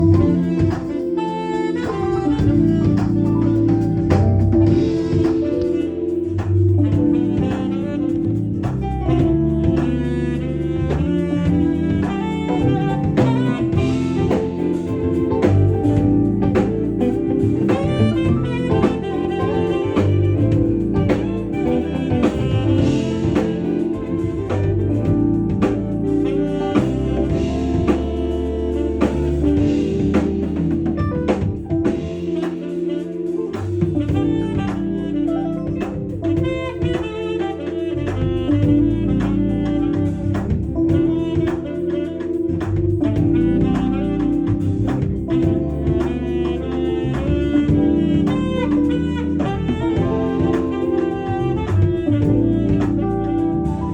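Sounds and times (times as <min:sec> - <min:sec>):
bass line: 0:00.0 - 0:53.9
drum kit beat: 0:00.0 - 0:53.9
saxophone melody: 0:00.0 - 0:53.9.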